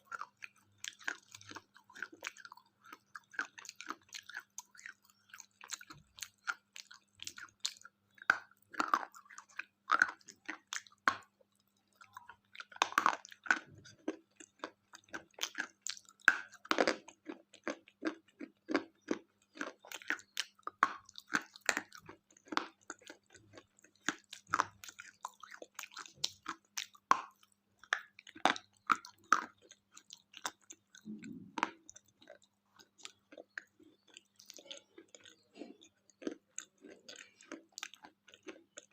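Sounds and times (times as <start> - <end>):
chewing and crunching wafer: 0.0 - 38.9.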